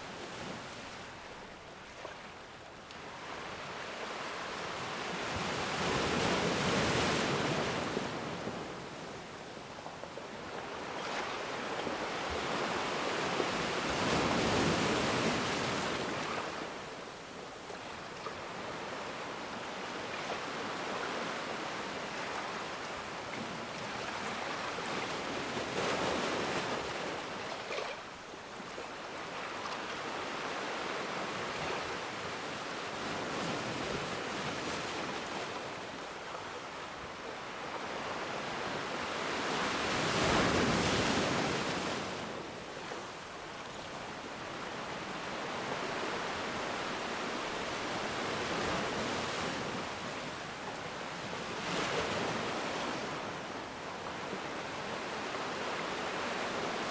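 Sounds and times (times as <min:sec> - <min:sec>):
ocean waves washing ashore: 0:00.0 - 0:56.9.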